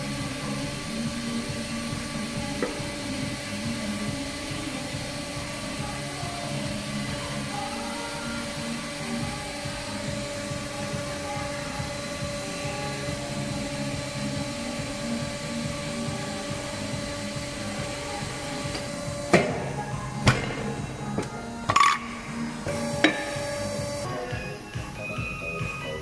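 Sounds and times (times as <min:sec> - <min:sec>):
machine motor hum with pulse: 0:00.0 - 0:26.0.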